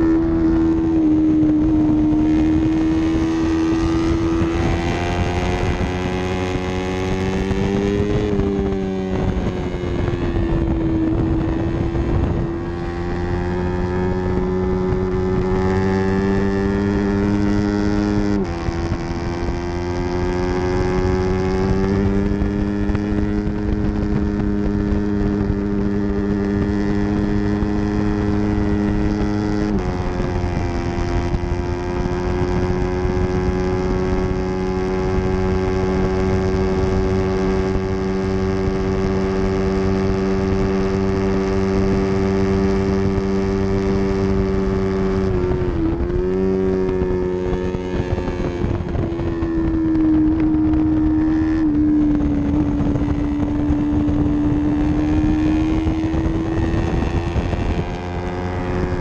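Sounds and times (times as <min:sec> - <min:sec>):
motorcycle engine revving high: 0:00.0 - 0:59.0.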